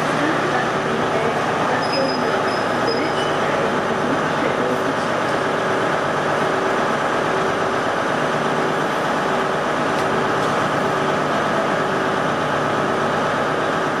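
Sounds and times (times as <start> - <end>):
train droning hum: 0.0 - 14.0.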